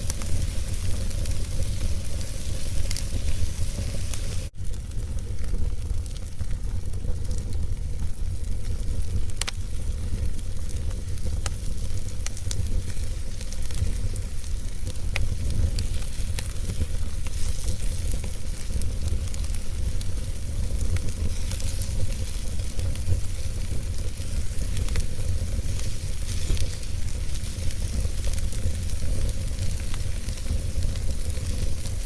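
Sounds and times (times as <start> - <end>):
fireplace fire crackling: 0.0 - 32.0.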